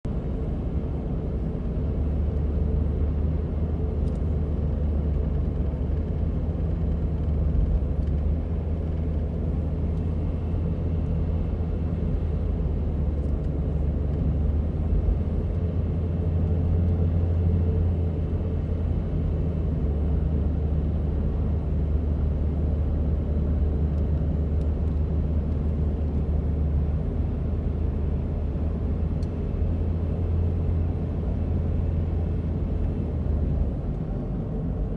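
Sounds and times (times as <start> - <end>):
car running low hum: 0.0 - 34.9.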